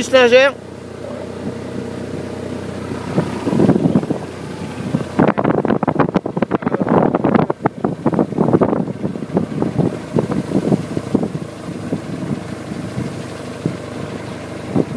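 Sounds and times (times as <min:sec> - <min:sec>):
vehicle engine running: 0:00.0 - 0:14.9
wind buffeting on microphone: 0:01.0 - 0:14.9.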